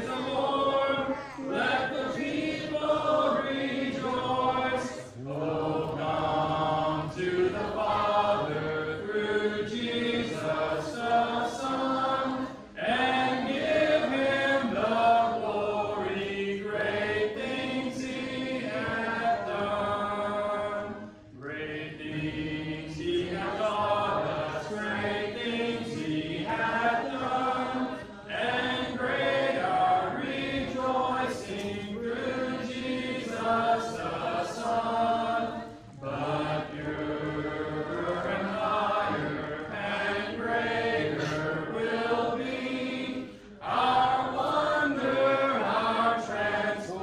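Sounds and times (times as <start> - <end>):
congregation singing a hymn: 0.0 - 47.0.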